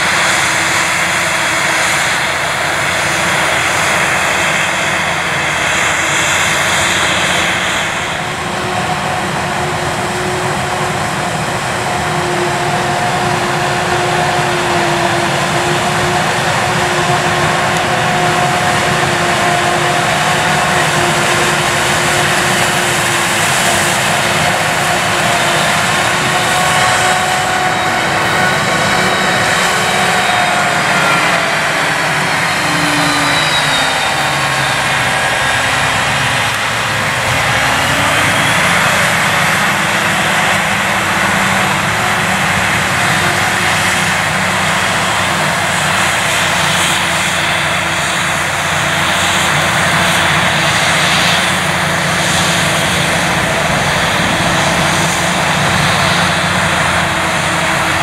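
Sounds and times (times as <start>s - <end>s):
harvester engine drone: 0.0s - 58.0s.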